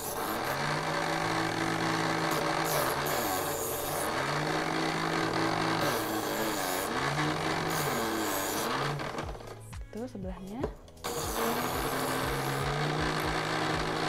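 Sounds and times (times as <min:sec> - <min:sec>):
electric knife sharpener grinding: 0:00.0 - 0:09.7, 0:11.0 - 0:14.0.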